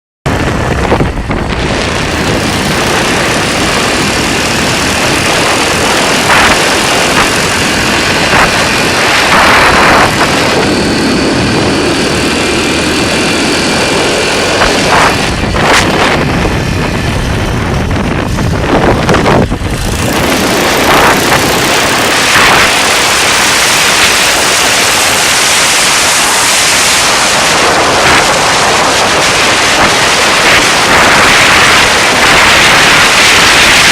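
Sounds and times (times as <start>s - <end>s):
vehicle engine running: 0.3s - 33.9s.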